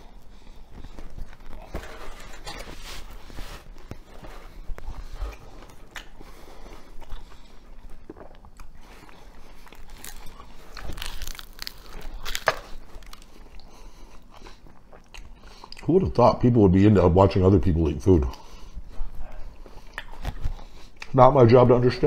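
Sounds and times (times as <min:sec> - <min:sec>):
man chewing a sandwich: 0:00.0 - 0:16.0, 0:18.3 - 0:21.2.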